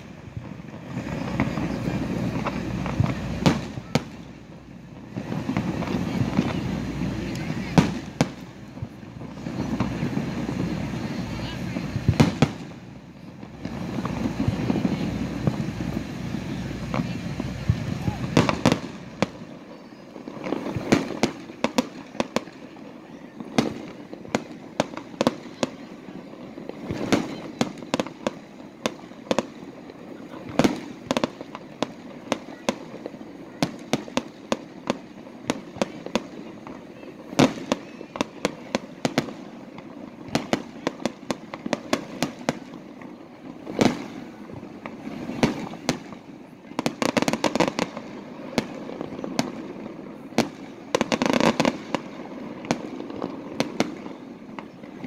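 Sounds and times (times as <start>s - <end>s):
rapid firework crackling: 0.0s - 55.0s.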